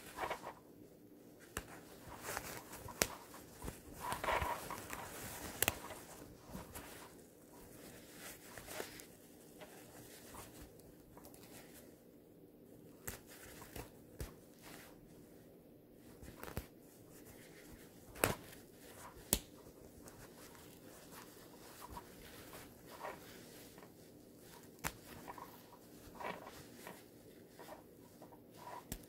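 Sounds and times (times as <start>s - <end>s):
fabric rustling and scraping: 0.0s - 12.0s, 12.9s - 29.0s.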